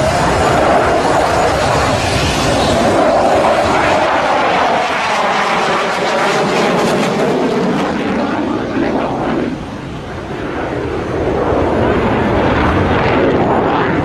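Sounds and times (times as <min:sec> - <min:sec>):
jet flying past: 0:00.0 - 0:14.0.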